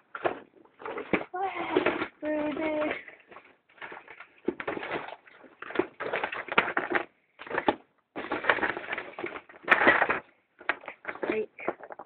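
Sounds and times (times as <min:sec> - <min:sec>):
crackling clicking handling noise: 0:00.0 - 0:12.0.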